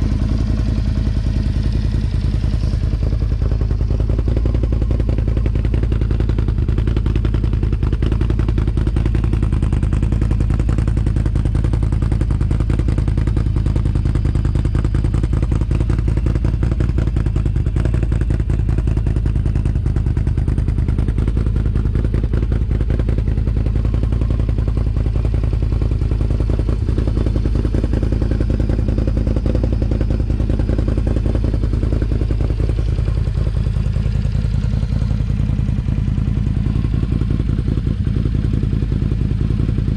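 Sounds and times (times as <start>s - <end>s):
atv engine rumbling: 0.0s - 39.9s.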